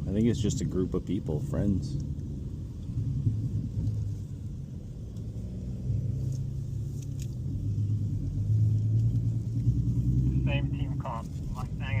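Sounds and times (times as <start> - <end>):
car engine in cabin: 0.0 - 12.0
road noise: 0.0 - 12.0.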